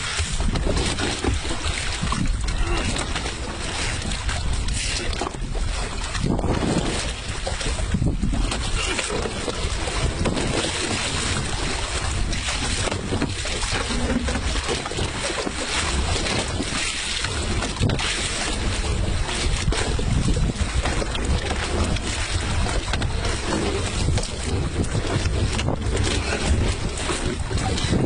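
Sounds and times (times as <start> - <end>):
rushing water: 0.0 - 28.0
wind buffeting microphone: 0.0 - 28.0.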